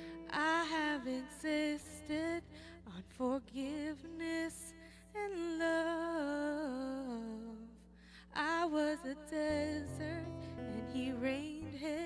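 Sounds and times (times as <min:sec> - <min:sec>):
women singing worship song: 0:00.0 - 0:12.0.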